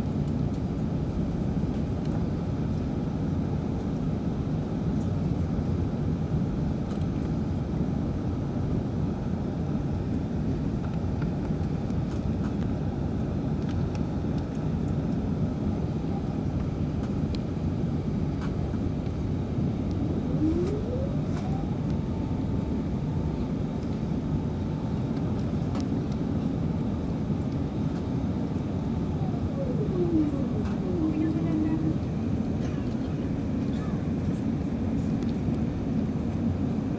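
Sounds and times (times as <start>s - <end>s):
airliner cabin engine rumble: 0.2s - 36.9s
jet engine whine: 0.3s - 36.9s.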